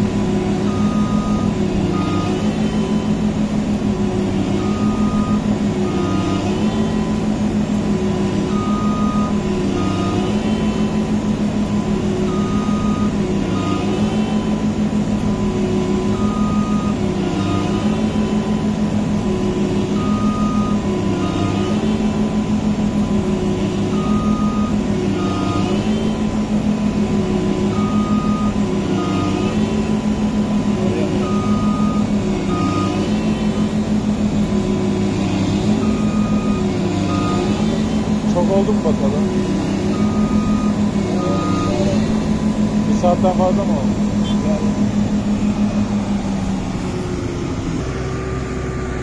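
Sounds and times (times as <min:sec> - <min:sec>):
combine harvester engine running: 0:00.0 - 0:49.0
beeping alarm: 0:00.6 - 0:03.4, 0:04.0 - 0:07.5, 0:08.3 - 0:11.4, 0:12.2 - 0:23.2, 0:23.8 - 0:34.3, 0:35.1 - 0:46.8.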